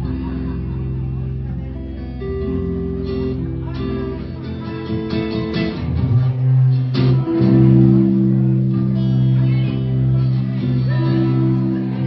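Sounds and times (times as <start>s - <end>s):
bass guitar notes: 0.0s - 12.0s
guitar instrumental music: 0.0s - 12.0s.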